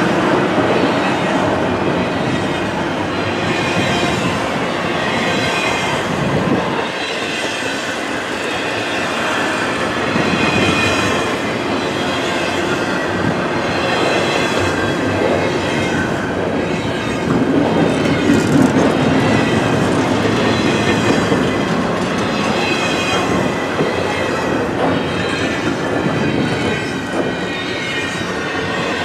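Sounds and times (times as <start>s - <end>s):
steel wheels rumbling on rail: 0.0s - 29.0s.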